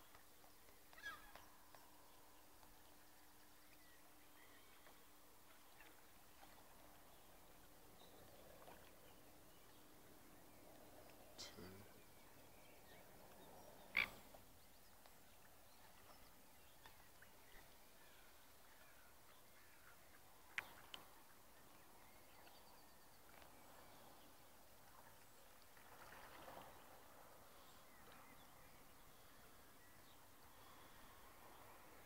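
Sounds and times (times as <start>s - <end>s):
faint lakeside ambience: 0.0s - 32.0s.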